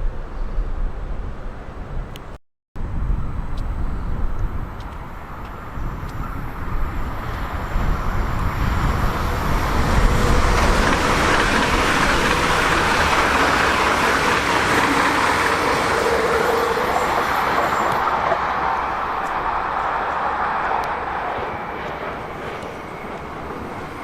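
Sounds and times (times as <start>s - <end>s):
train rolling past: 4.6s - 24.0s.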